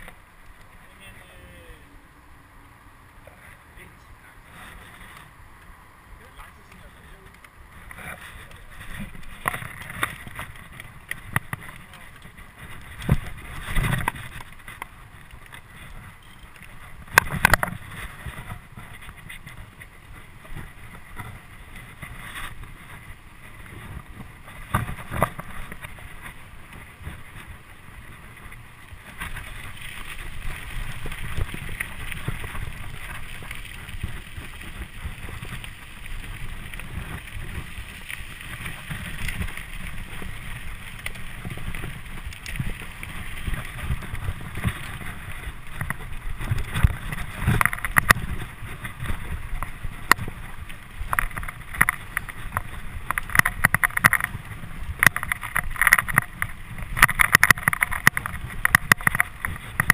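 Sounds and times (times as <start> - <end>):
bike clicking and rattling: 0.0 - 1.8, 2.5 - 59.9
tyres rolling over gravel: 3.1 - 59.9
wind buffeting microphone: 7.1 - 59.9.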